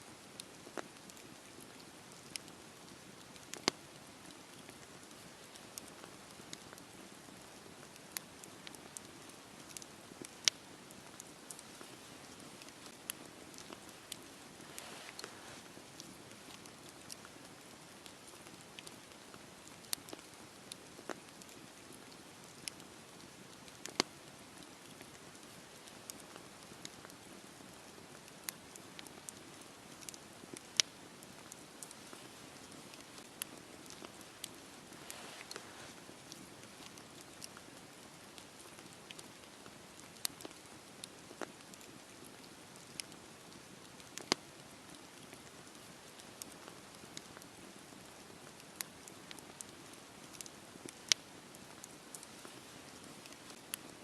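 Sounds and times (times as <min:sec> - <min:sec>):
campfire flames hissing: 0:00.1 - 0:54.0
wood crackling and popping: 0:00.1 - 0:54.0.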